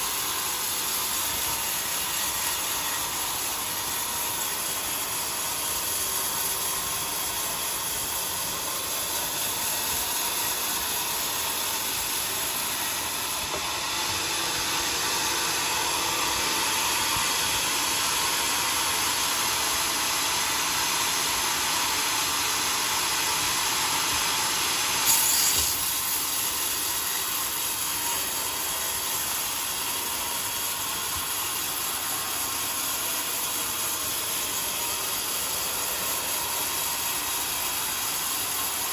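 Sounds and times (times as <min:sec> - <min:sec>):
saw blade cutting log: 0:00.0 - 0:38.9.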